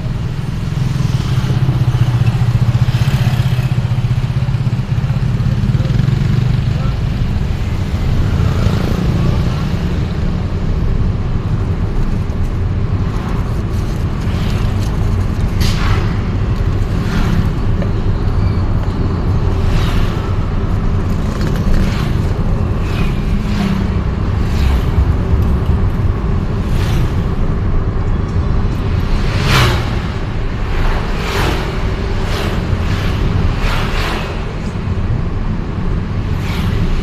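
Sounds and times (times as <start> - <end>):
vehicle rumble: 0.0 - 37.0.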